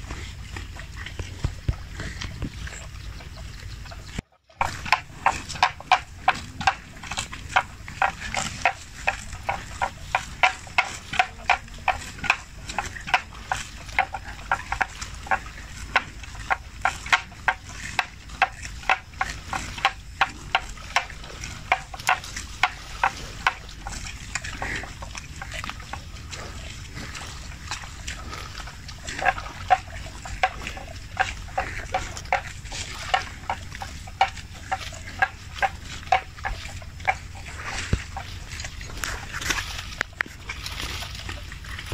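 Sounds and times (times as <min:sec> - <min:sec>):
buffalo tearing grass: 0:04.6 - 0:41.9.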